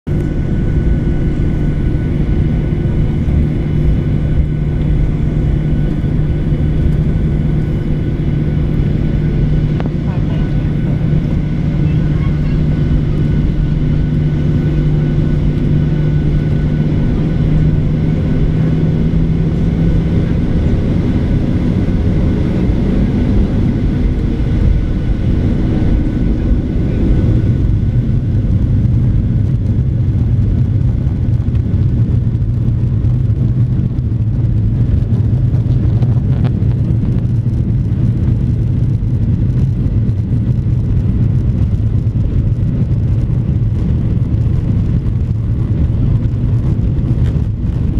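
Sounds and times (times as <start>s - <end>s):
jet engines running: 0.1s - 47.9s.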